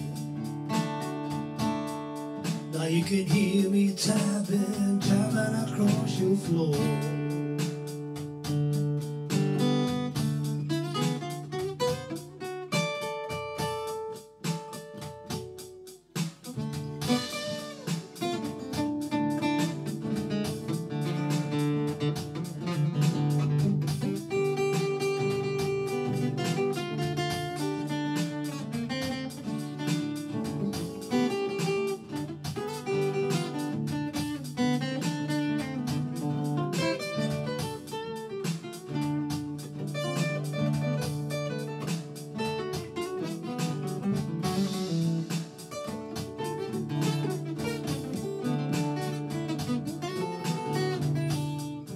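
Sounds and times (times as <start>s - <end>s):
solo acoustic blues guitar: 0.0s - 51.9s.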